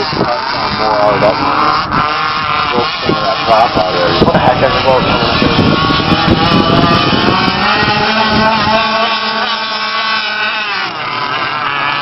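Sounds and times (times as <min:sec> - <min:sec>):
model boat motor whining: 0:00.0 - 0:12.0.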